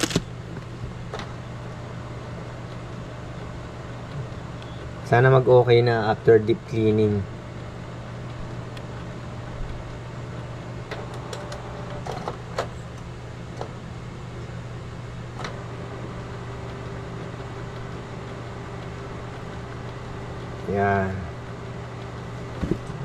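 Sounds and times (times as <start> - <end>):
printer humming: 0.0 - 23.0.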